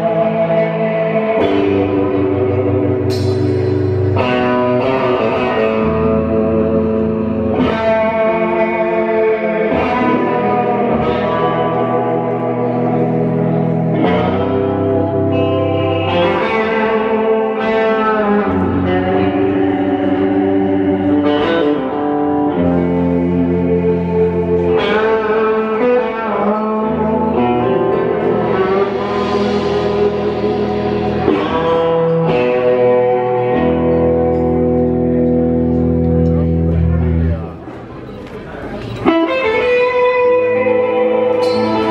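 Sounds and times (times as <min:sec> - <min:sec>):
electric guitars playing chords: 0:00.0 - 0:41.9.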